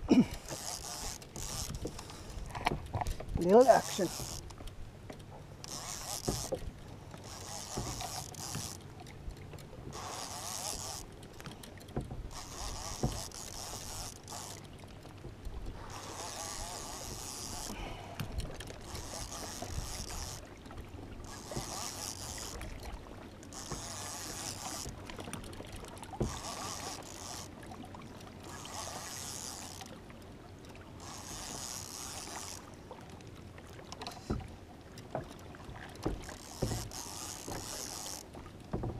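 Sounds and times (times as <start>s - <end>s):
water lapping against kayak hull: 0.0s - 38.9s.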